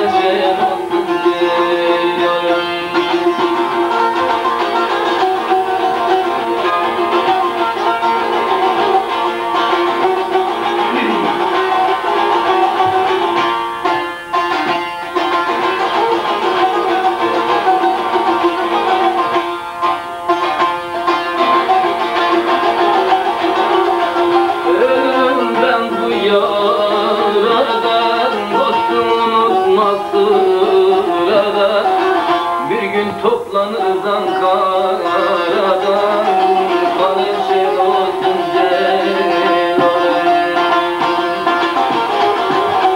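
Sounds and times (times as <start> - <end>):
plucked lute melody over drone: 0.0 - 42.9.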